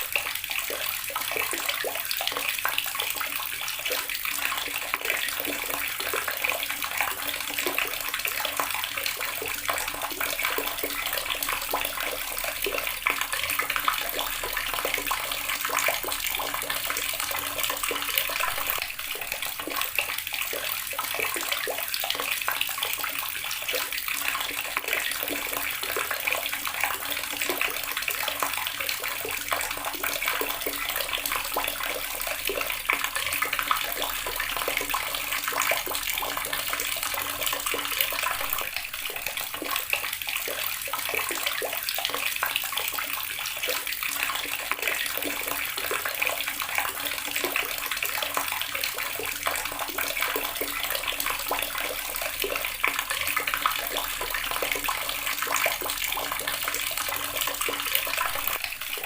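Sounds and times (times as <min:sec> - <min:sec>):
water running from tap: 0:00.0 - 0:59.0.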